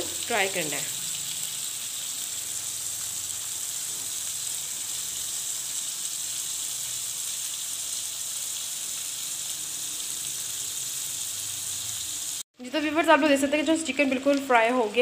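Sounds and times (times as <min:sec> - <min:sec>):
chicken sizzling in a pan: 0:00.0 - 0:12.5, 0:13.4 - 0:15.0.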